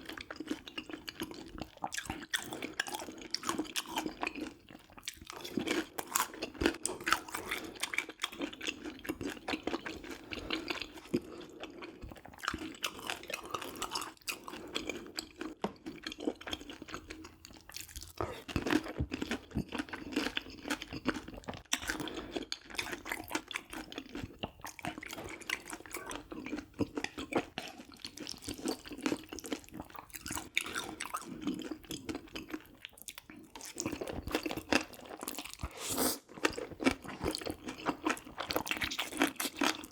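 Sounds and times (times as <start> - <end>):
chewing with wet mouth smacks: 0.0 - 39.9.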